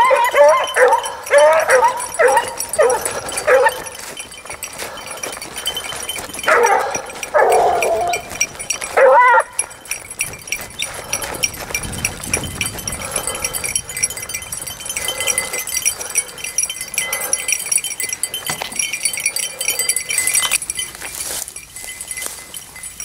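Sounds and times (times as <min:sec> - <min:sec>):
hounds baying: 0:00.0 - 0:21.5.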